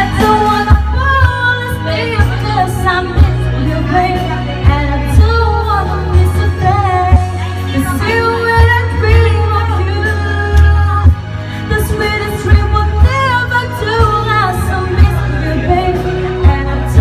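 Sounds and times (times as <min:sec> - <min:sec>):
backing track with heavy bass: 0:00.0 - 0:17.0
woman singing into microphone: 0:00.0 - 0:17.0.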